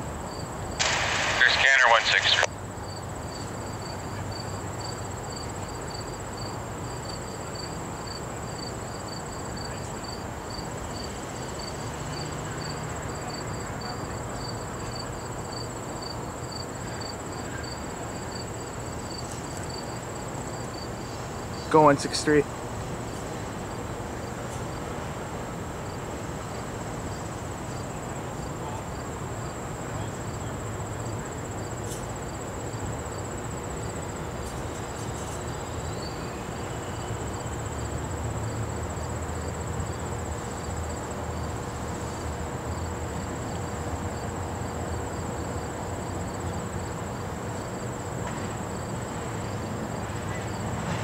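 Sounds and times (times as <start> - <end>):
insects chirping: 0.0 - 50.8.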